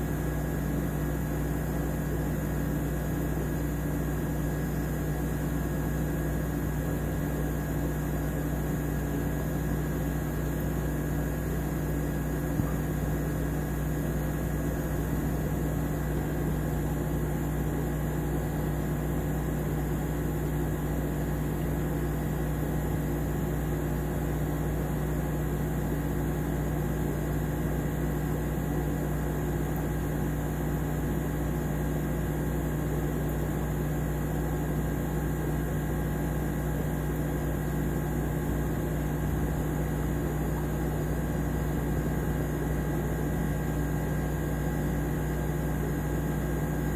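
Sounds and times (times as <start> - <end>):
aquarium equipment humming: 0.0 - 46.9.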